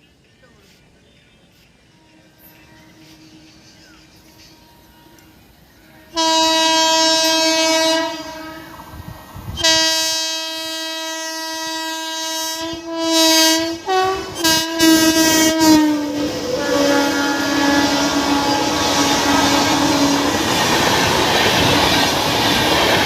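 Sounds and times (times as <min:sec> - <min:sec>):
passing train rumble: 0:00.0 - 0:23.0
locomotive horn blasts: 0:01.9 - 0:21.1.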